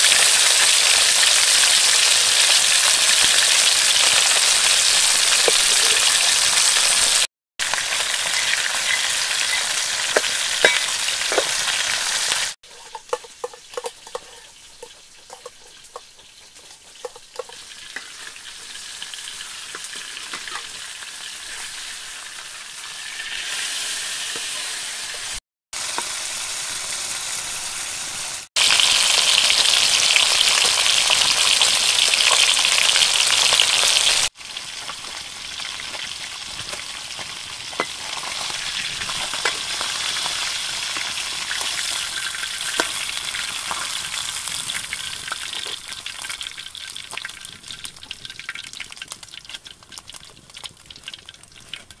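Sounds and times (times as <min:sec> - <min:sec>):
fish sizzling in hot oil: 0:00.0 - 0:52.0.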